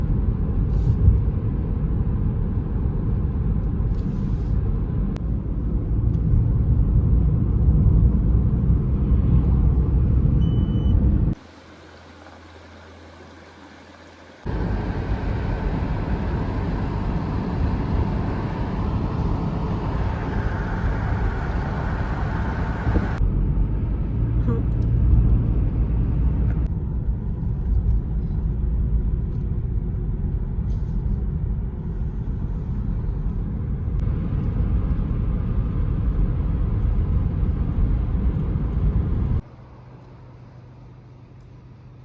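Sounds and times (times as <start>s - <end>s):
car tyres and engine rumble: 0.0s - 42.0s.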